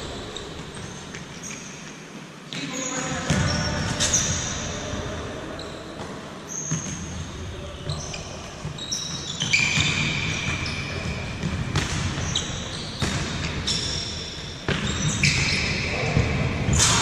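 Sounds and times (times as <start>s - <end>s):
shoes squeaking on floor: 0.0s - 4.9s, 5.5s - 17.0s.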